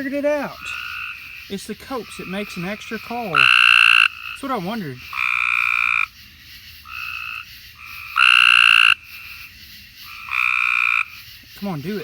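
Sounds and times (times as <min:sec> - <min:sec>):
tree frogs trilling: 0:00.0 - 0:12.0.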